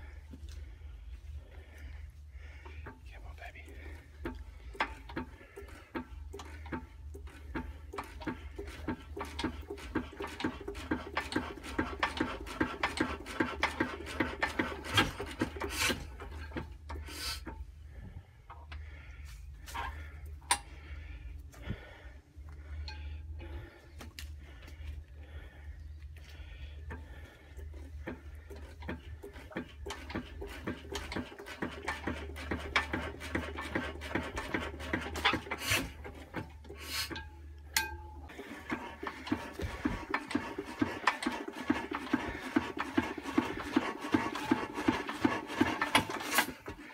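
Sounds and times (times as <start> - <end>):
engine flywheel clicking: 0.0 - 19.0, 19.7 - 21.1, 22.4 - 46.9.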